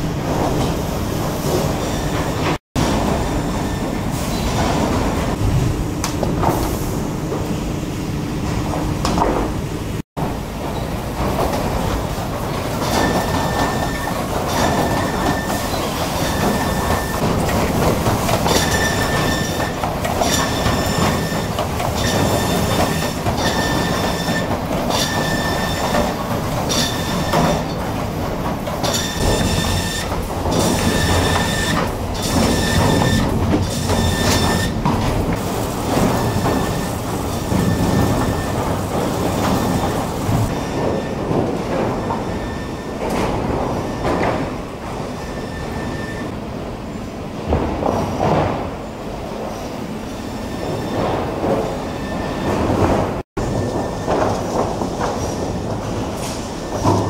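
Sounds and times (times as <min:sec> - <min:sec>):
conveyors and rollers clattering: 0:00.0 - 0:57.0.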